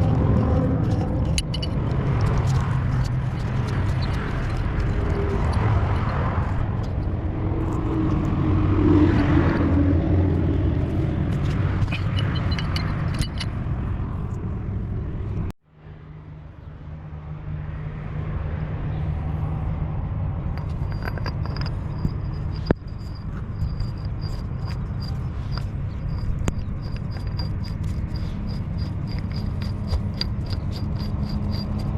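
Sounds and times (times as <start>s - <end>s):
low engine rumble: 0.0s - 31.9s.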